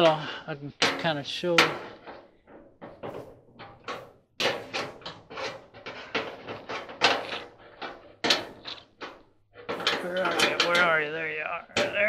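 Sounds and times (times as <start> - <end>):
metal knocks on sheet metal: 0.8 - 11.1.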